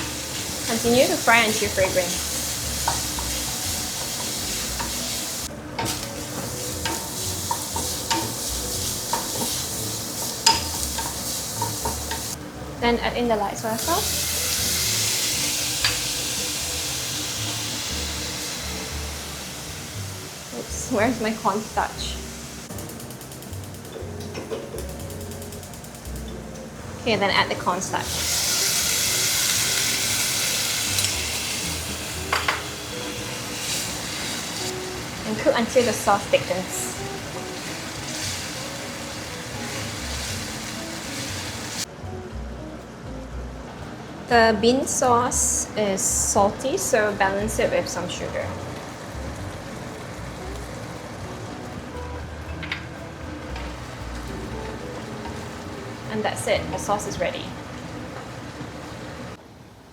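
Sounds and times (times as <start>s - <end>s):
food sizzling in hot oil: 0.0s - 41.9s, 46.0s - 52.1s, 53.5s - 59.4s.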